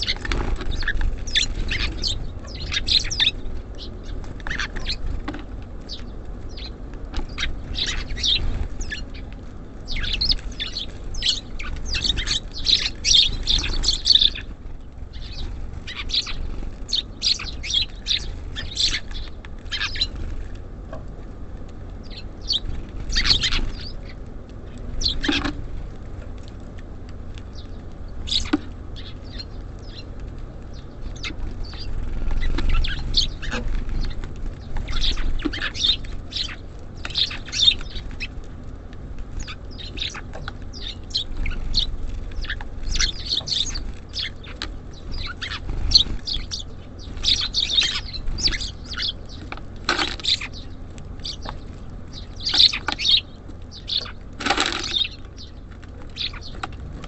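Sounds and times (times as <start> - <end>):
small songbirds chirping: 0.0 - 57.0
steady low rumble: 0.0 - 57.0.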